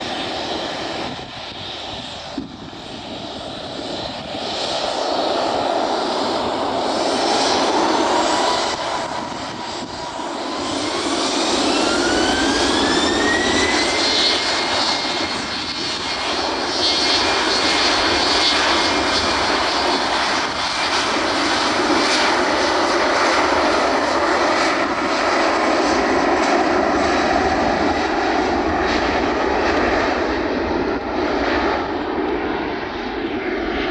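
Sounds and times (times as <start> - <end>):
jet engines spooling up: 0.0 - 33.9
jet roar: 0.0 - 33.9.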